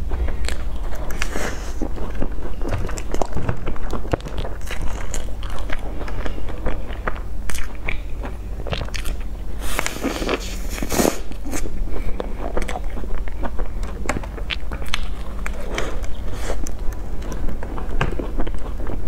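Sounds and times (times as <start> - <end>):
close-miked chewing: 0.0 - 19.0.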